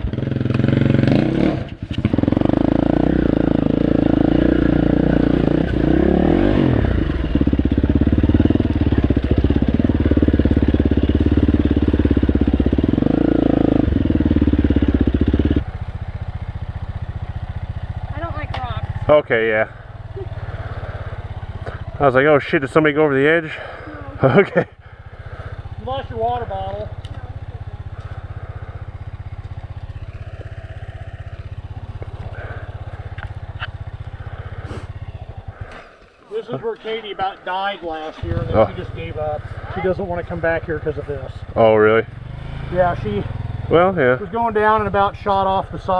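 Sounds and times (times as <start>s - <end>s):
dirt bike engine revving: 0.0s - 37.2s, 37.8s - 45.9s.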